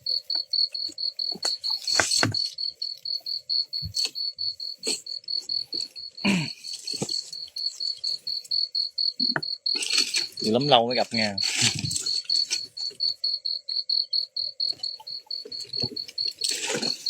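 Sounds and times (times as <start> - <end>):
insect pulsed trill: 0.0 - 17.0.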